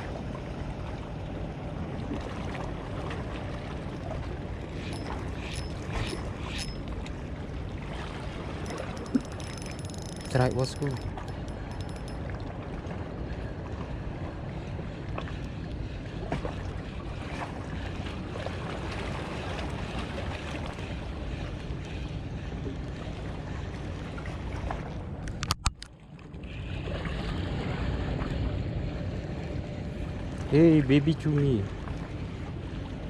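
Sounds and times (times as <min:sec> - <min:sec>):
wind and water noise: 0:00.0 - 0:33.0.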